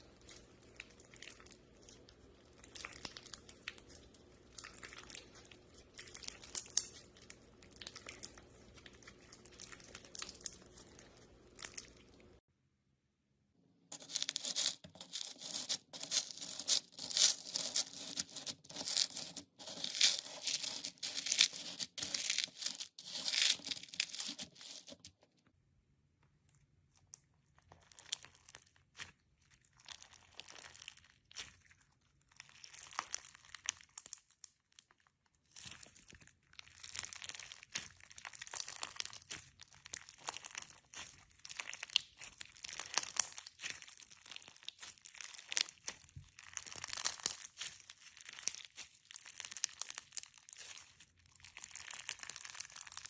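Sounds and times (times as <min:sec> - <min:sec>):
slime crackling and popping: 0:00.0 - 0:12.4, 0:13.9 - 0:25.0, 0:27.0 - 0:53.0.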